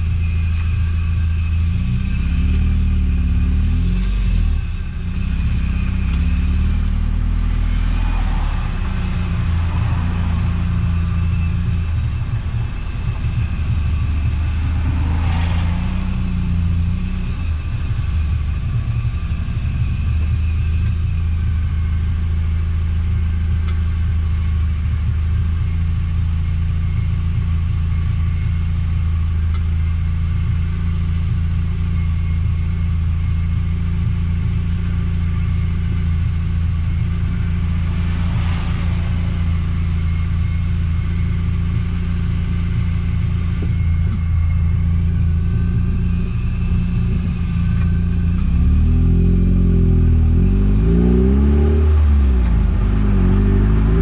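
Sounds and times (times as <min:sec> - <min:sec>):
car engine droning: 0:00.0 - 0:54.0
road noise: 0:00.0 - 0:54.0.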